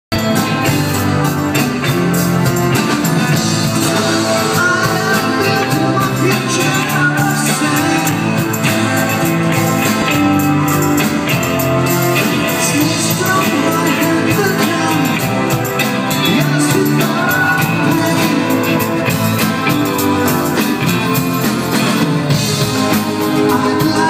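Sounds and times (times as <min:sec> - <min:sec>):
live rock band playing: 0:00.1 - 0:24.0.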